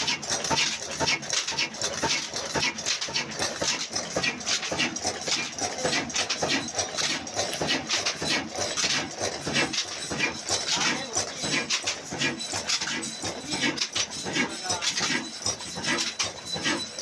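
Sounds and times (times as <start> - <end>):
single-cylinder diesel engine clatter: 0.0 - 17.0.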